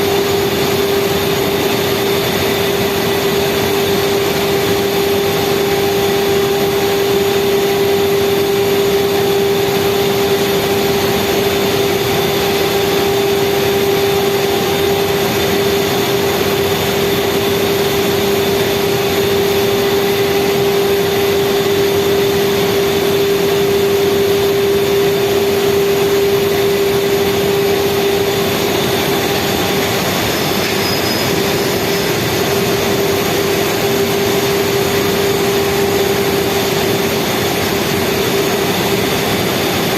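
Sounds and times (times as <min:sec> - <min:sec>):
speedboat outboard engine running: 0:00.0 - 0:39.9.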